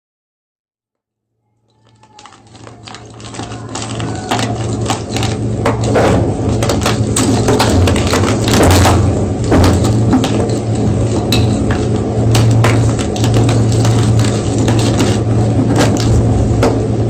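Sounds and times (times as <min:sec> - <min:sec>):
steady low hum: 0:02.0 - 0:17.0.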